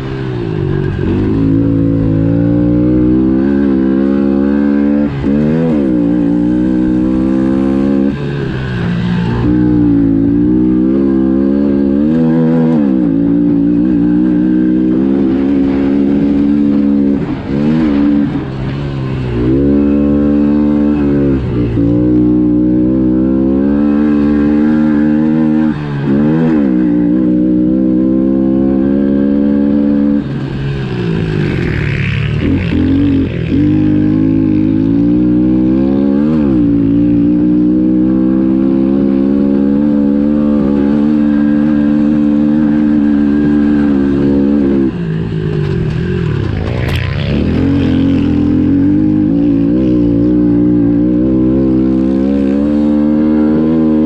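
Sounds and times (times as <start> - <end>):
small motorbike engine revving: 0.0 - 54.0.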